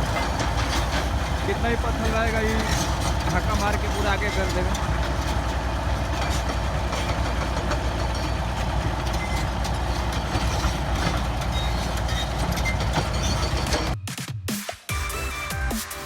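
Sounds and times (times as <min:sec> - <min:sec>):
diesel grader engine rumbling: 0:00.0 - 0:14.0.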